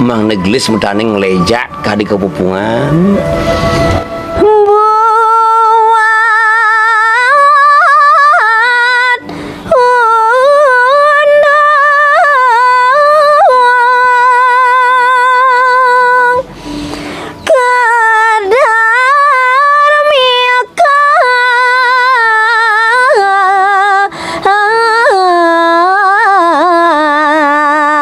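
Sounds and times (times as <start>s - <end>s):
woman singing unaccompanied: 4.3s - 16.5s, 17.4s - 28.0s.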